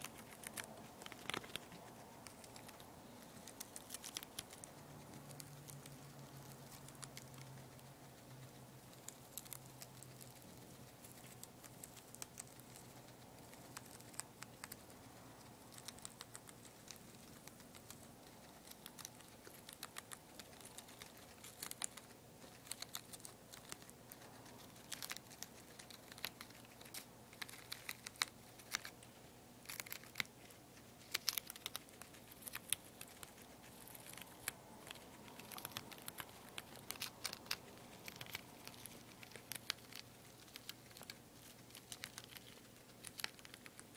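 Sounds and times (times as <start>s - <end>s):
guinea pig chewing lettuce: 0.0s - 43.9s.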